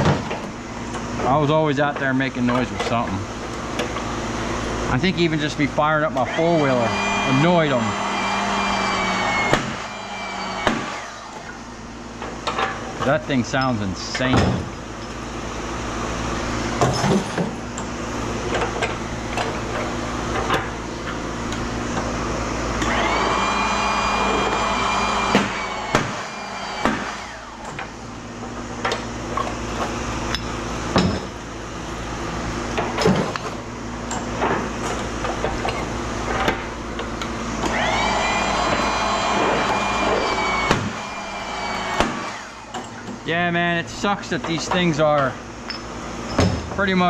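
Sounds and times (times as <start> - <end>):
press humming: 0.0 - 12.6, 13.2 - 46.5
machine whine: 0.0 - 47.0.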